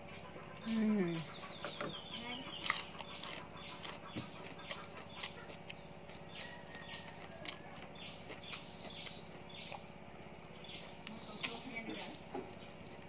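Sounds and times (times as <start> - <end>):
birds chirping: 0.0 - 13.0
person chewing raw vegetables: 0.0 - 13.0.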